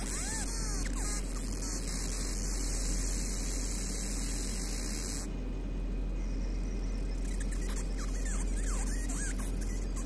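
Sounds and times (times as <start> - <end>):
laser engraver electrical hum: 0.0 - 10.0.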